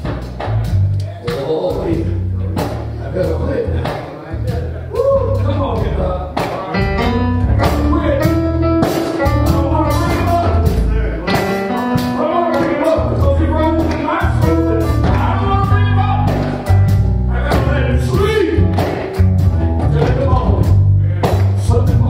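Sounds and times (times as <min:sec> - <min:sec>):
gospel band with bass and drums: 0:00.0 - 0:22.0.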